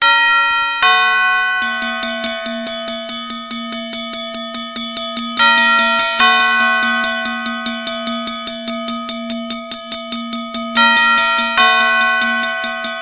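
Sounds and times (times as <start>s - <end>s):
large bell ringing: 0.0s - 13.0s
small bell ringing rapidly: 1.6s - 13.0s.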